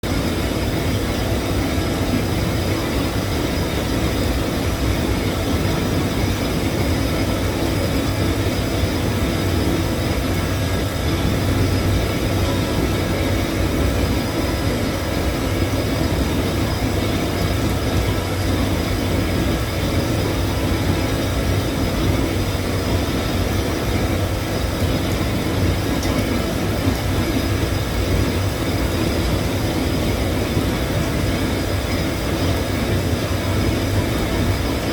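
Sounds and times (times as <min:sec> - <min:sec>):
welding hum and rumble: 0:00.0 - 0:34.9.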